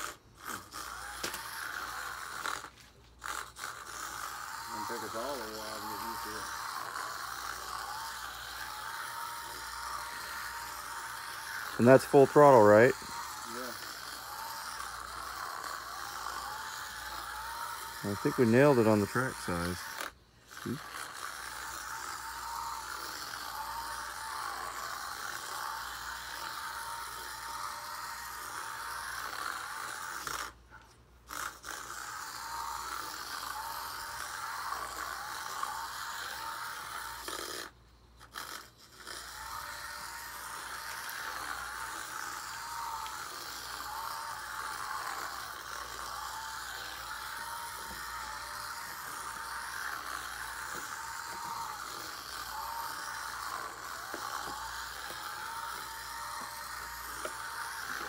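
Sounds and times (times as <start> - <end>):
rc car electric motor whining: 0.0 - 58.0.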